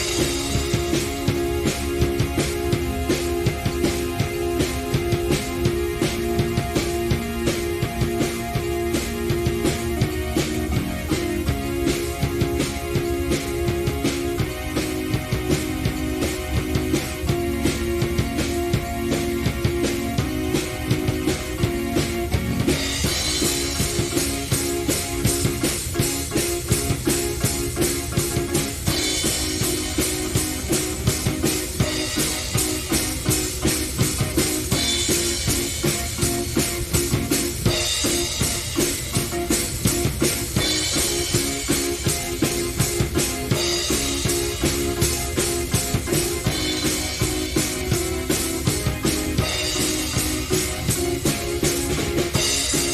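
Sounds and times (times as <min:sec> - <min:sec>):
drum kit busy beat: 0:00.0 - 0:52.9
held keyboard figure: 0:00.0 - 0:52.9.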